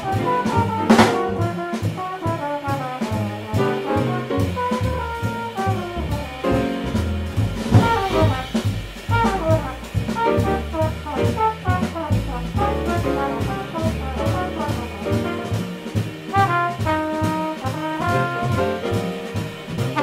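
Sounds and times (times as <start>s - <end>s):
drum kit: 0.0s - 20.0s
piano: 0.0s - 20.0s
trombone solo: 0.0s - 20.0s
walking upright bass: 0.0s - 20.0s.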